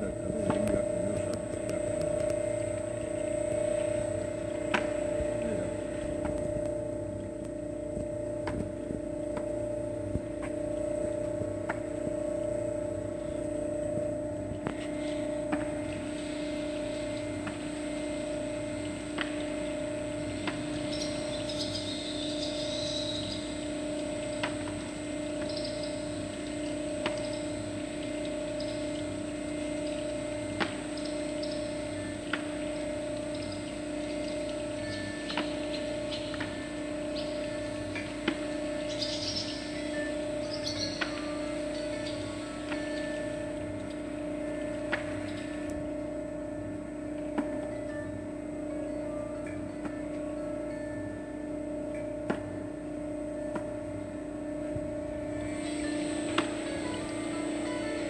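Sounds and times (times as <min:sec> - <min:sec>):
oil press motor hum: 0:00.0 - 0:58.0.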